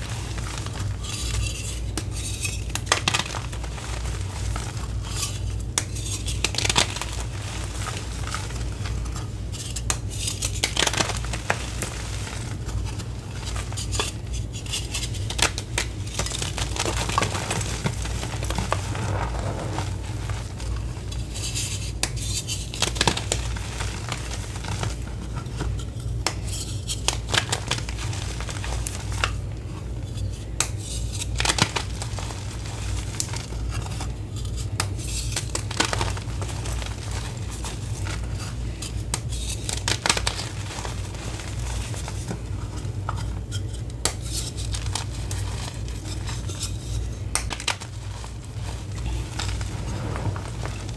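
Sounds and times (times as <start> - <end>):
powder crumbling: 0.0 - 25.8, 27.0 - 29.5, 30.6 - 43.2, 43.9 - 50.9
chalk blocks cracking and crunching: 0.0 - 29.4, 30.1 - 50.9
steady low hum: 0.0 - 50.9.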